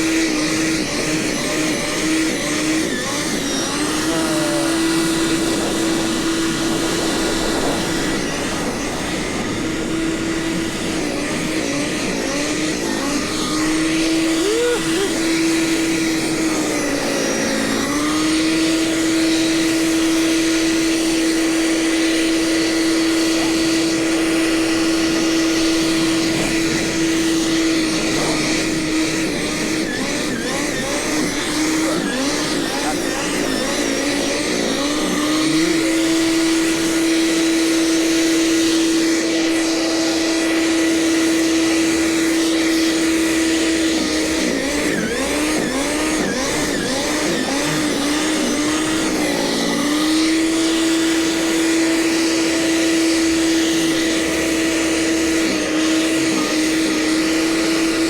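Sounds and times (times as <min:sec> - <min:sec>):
snowblower engine running: 0:00.0 - 0:58.0.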